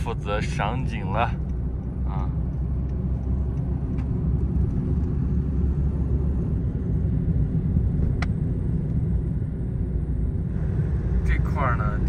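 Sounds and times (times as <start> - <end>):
car road and wind rumble: 0.0 - 12.0.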